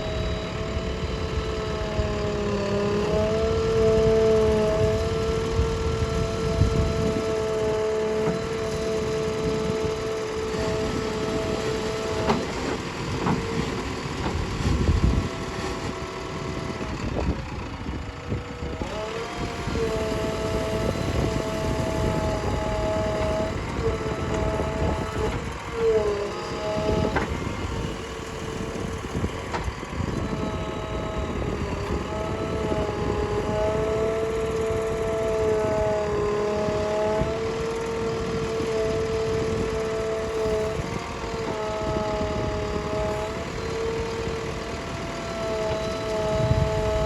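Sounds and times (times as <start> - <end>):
heavy diesel machinery running: 0.0 - 47.0.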